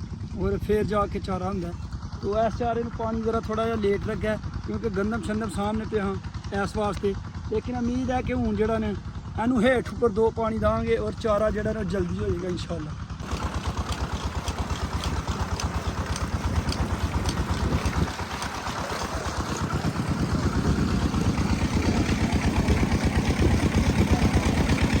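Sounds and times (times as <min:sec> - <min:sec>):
diesel water pump engine running: 0:00.0 - 0:25.0.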